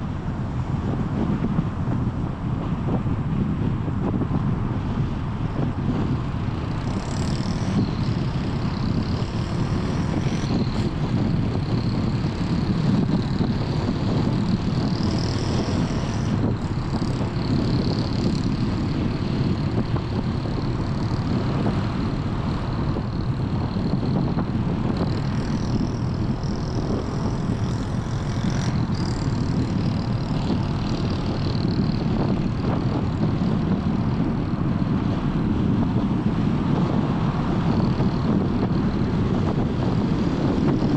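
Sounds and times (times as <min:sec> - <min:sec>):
wind hiss: 0:00.0 - 0:40.9.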